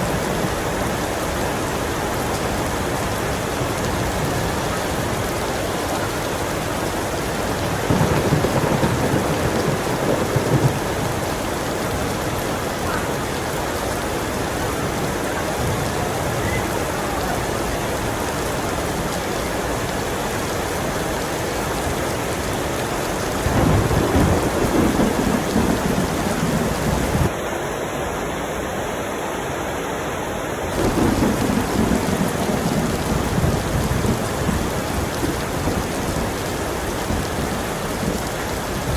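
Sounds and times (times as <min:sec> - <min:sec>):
thunder rumbling: 0:00.0 - 0:27.3, 0:30.8 - 0:38.9
heavy rain falling: 0:00.0 - 0:38.9.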